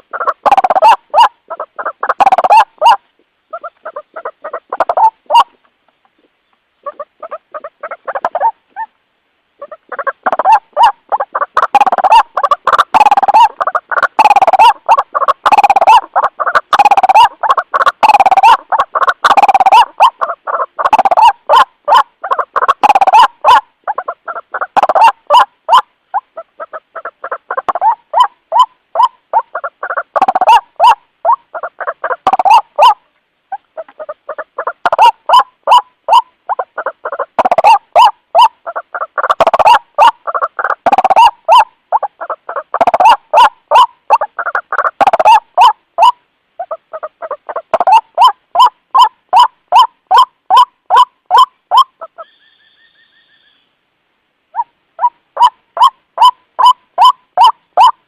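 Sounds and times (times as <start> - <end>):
waterhen calling harsh notes: 0.0 - 5.6, 9.6 - 53.8, 54.5 - 58.0.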